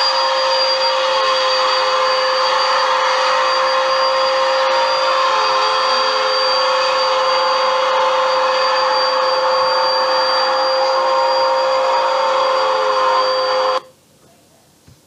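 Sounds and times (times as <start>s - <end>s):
vacuum cleaner running on carpet: 0.0s - 13.9s.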